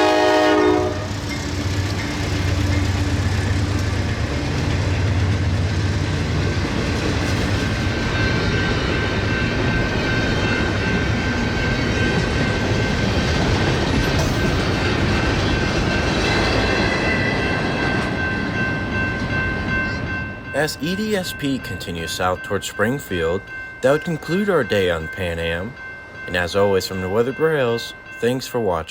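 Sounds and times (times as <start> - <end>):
diesel locomotive engine: 0.0 - 28.9
freight cars rumbling and clattering: 1.1 - 28.3.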